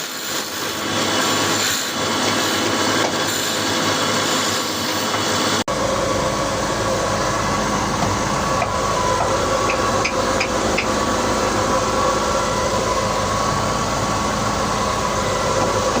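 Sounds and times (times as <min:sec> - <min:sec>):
woodworking machine humming: 0:00.5 - 0:16.0.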